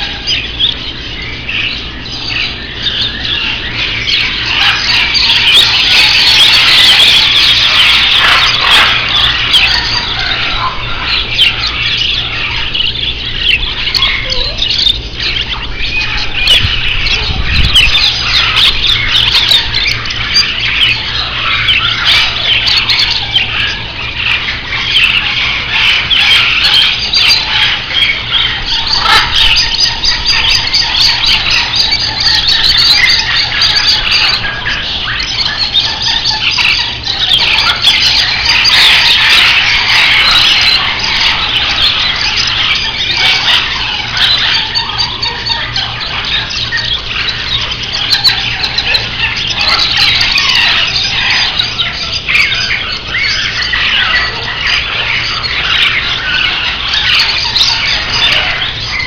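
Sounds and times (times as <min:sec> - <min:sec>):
caged parrots chirping and squawking: 0:00.0 - 0:59.0.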